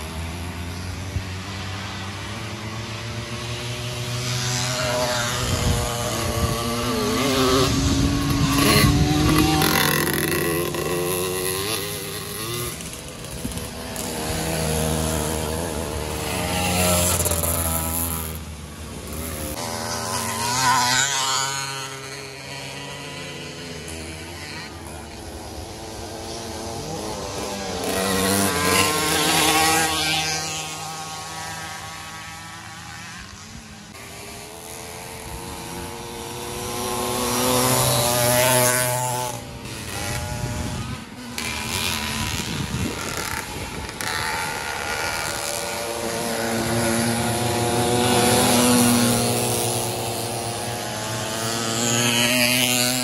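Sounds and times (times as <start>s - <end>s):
two-stroke engines revving past: 0.0s - 53.0s.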